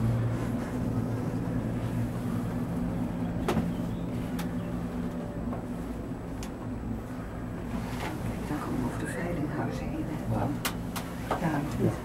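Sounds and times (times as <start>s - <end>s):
cable car gondola humming: 0.0s - 12.0s.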